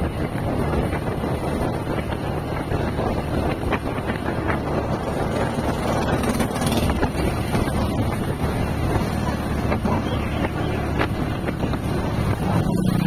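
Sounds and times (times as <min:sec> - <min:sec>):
road noise: 0:00.0 - 0:13.0
vehicle engine drone: 0:00.0 - 0:13.0
wind rushing over microphone: 0:00.0 - 0:13.0.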